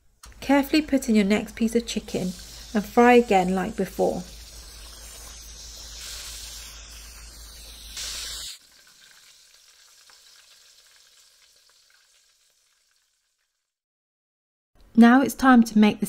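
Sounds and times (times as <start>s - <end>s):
chicken sizzling in hot oil: 0.5s - 13.6s.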